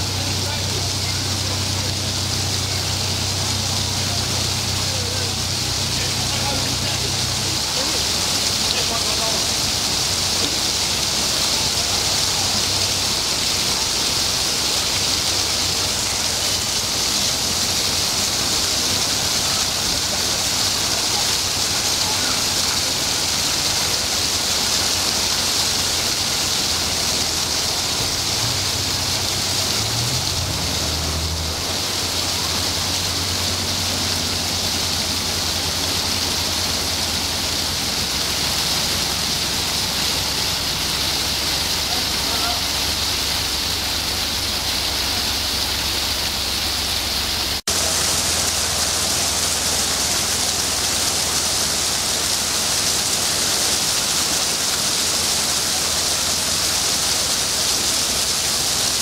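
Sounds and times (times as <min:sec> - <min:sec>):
boat engine hum: 0:00.0 - 0:59.0
water rushing through lock: 0:00.0 - 0:59.0.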